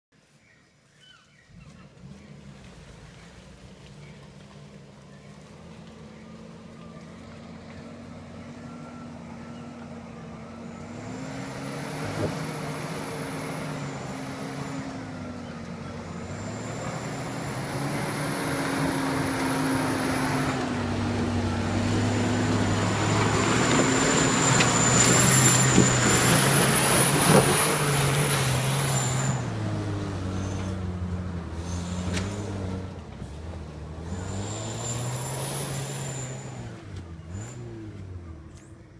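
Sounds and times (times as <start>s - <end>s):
pickup truck engine passing: 1.5s - 38.9s.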